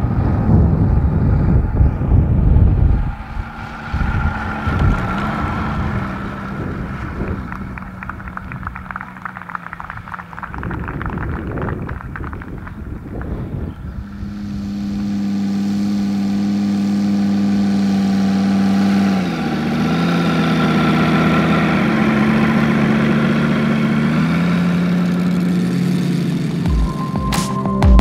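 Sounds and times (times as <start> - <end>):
model aircraft engine running: 0.0 - 26.9.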